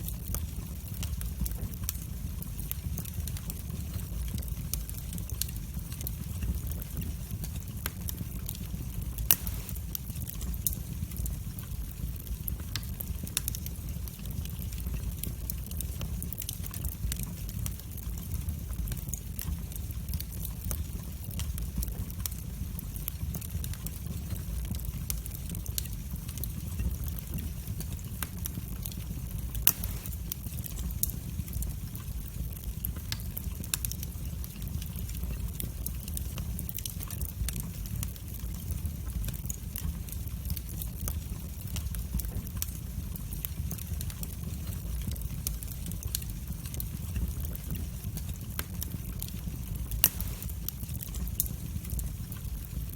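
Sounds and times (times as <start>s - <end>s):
low roar of fire: 0.0s - 52.9s
wood fire crackling and popping: 0.0s - 52.9s.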